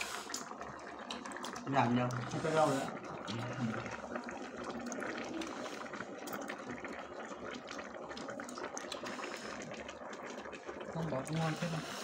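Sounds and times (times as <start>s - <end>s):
broth boiling and bubbling: 0.0s - 12.0s.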